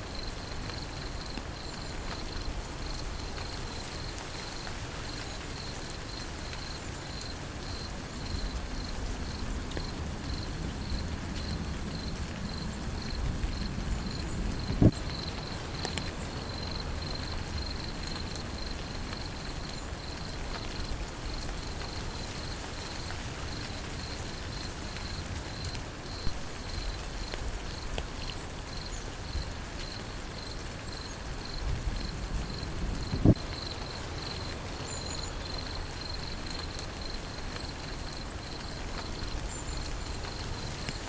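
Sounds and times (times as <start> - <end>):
cricket chirping: 0.0 - 41.0
steady rain: 0.0 - 41.0.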